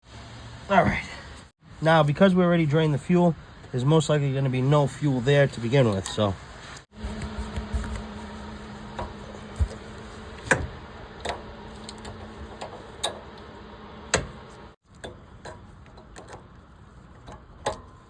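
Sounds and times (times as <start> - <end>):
low steady hum: 0.2 - 16.0.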